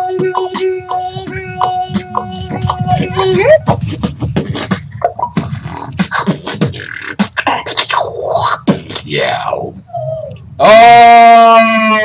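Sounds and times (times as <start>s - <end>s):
human beatboxing: 0.0s - 10.8s
sliding vocal tone: 0.0s - 12.0s.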